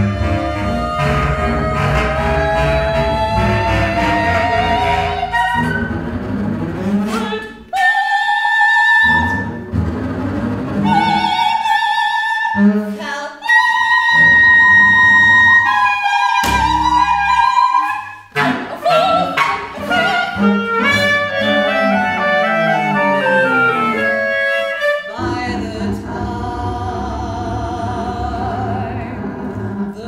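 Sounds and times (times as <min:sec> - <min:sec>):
operatic soprano singing: 0:00.0 - 0:05.8, 0:07.1 - 0:09.5, 0:10.8 - 0:30.0
bowed double bass: 0:00.0 - 0:07.7, 0:09.0 - 0:11.6, 0:14.1 - 0:30.0
flute: 0:00.0 - 0:26.4
clarinet: 0:00.0 - 0:30.0.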